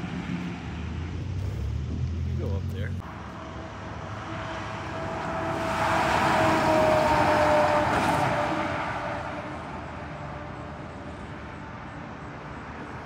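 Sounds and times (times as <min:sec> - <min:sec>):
truck driving past: 0:00.0 - 0:13.0.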